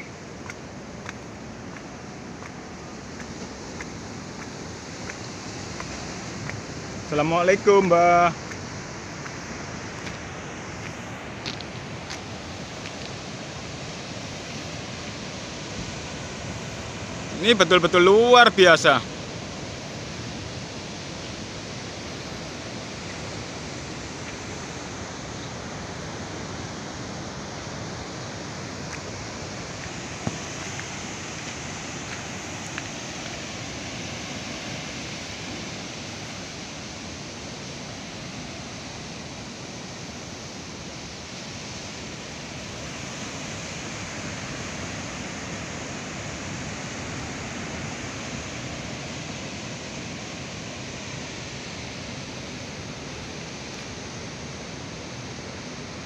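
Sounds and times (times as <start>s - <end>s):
ocean surf breaking: 0.0s - 56.0s
wind: 0.0s - 56.0s.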